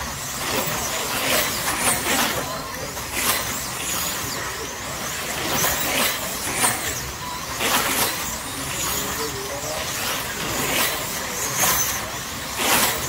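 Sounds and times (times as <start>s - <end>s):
slot car whine passing: 0.0s - 13.0s
slot cars humming: 0.0s - 13.0s.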